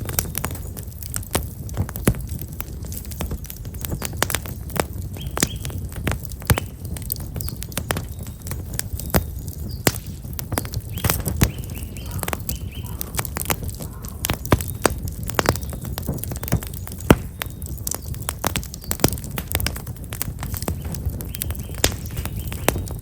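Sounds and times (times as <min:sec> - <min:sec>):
campfire crackling and popping: 0:00.0 - 0:23.0
small birds chirping: 0:00.0 - 0:23.0.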